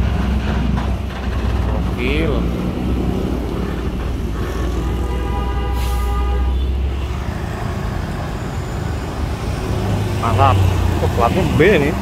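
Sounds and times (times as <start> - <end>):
diesel truck engine drone: 0.0 - 12.0
road traffic: 0.0 - 12.0.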